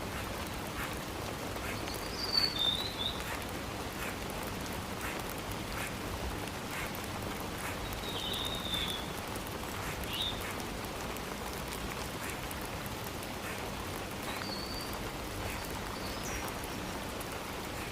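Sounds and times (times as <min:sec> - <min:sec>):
rain falling: 0:00.0 - 0:17.9.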